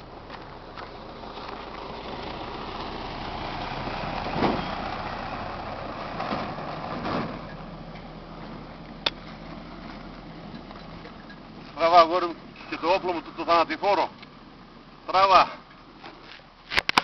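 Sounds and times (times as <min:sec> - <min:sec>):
pickup truck driving past: 0:00.0 - 0:15.9.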